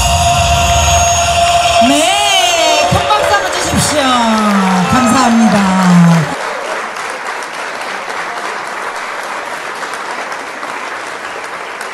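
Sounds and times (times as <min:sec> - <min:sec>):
audience applauding: 0:00.9 - 0:11.9.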